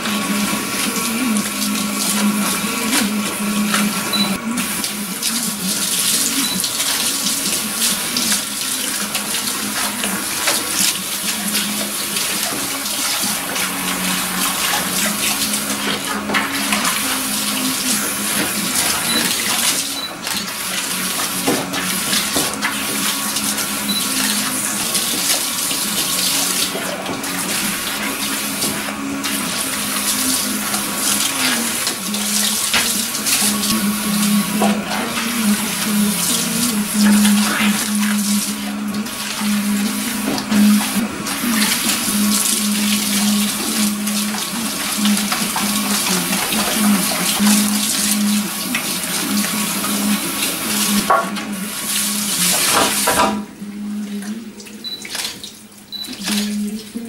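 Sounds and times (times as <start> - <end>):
shower water spraying and splashing: 0.0 - 53.5.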